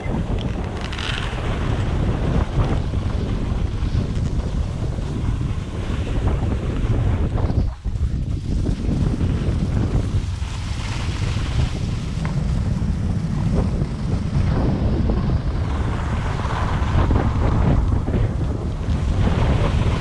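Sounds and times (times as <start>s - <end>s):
skis scraping on snow: 0.0s - 20.0s
wind buffeting microphone: 0.0s - 20.0s.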